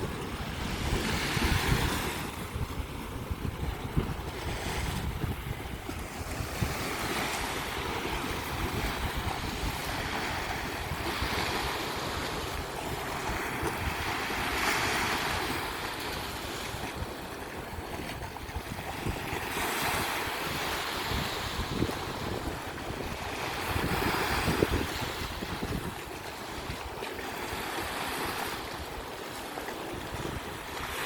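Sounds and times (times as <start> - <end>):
sea waves washing onto beach: 0.0 - 31.0
wind buffeting microphone: 0.0 - 31.0.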